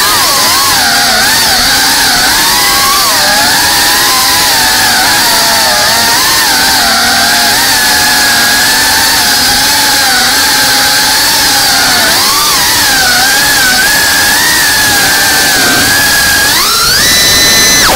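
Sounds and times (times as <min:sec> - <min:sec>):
quadcopter motors whining: 0:00.0 - 0:17.9.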